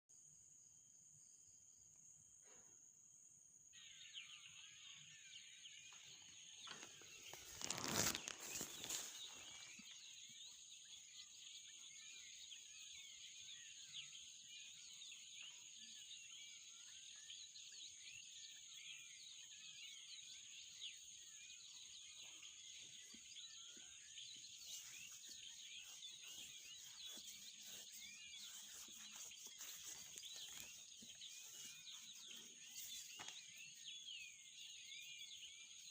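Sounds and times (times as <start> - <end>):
birds chirping: 3.8 - 35.9.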